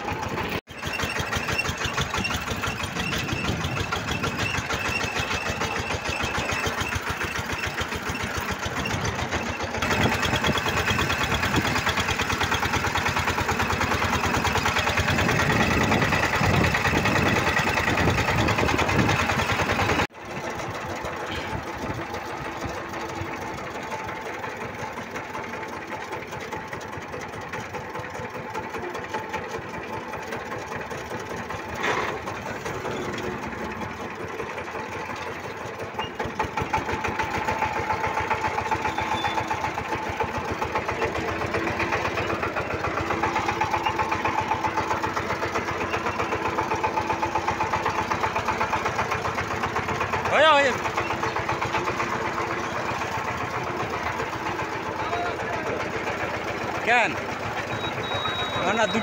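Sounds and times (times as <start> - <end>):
diesel engine chugging: 0.0 - 59.0.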